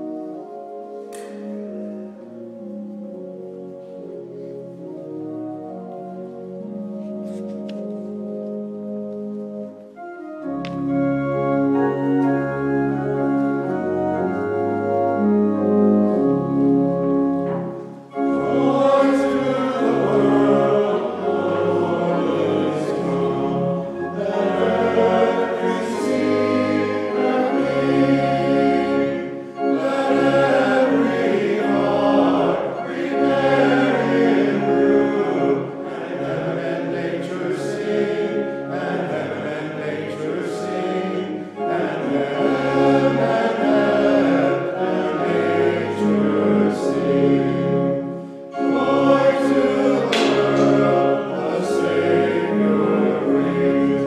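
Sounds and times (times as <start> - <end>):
organ playing chords: 0.0 - 54.0
voices singing a hymn: 10.2 - 54.0.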